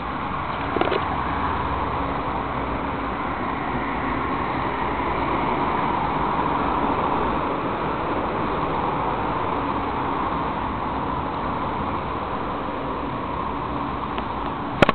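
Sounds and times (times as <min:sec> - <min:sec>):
cars driving past: 0:00.0 - 0:14.9.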